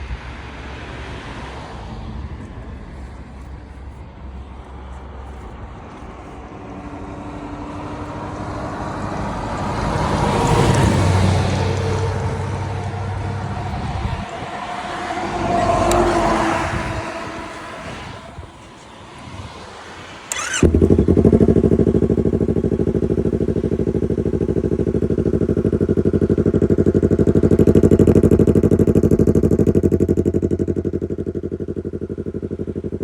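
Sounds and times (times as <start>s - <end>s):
motorcycle passing by: 0.2s - 33.0s.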